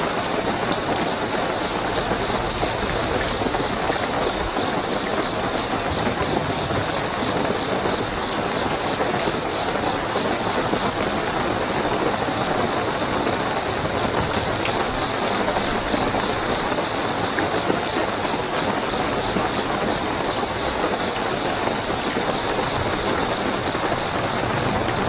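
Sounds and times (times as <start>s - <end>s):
cricket trill: 0.0s - 25.0s
steady rainfall: 0.0s - 25.0s.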